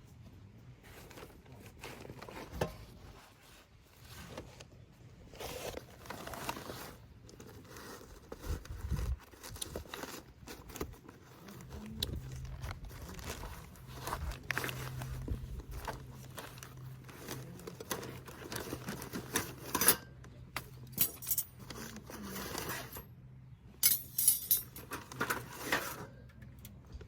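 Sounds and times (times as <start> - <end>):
gear rustling and crinkling: 0.1 - 23.1, 23.8 - 26.1.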